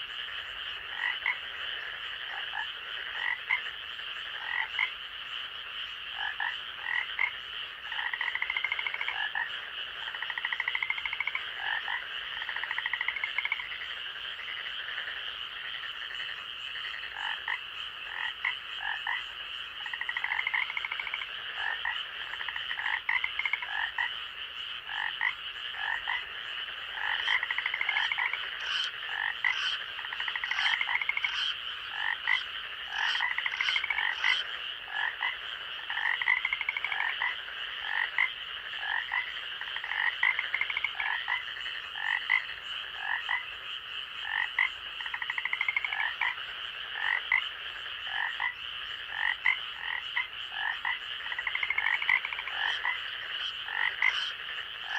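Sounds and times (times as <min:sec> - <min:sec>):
frogs croaking and trilling: 0:00.0 - 0:54.9.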